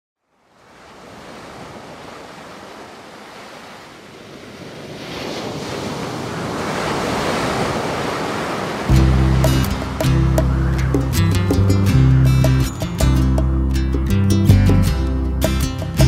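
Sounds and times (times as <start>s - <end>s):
ocean surf rushing: 0.5s - 13.9s.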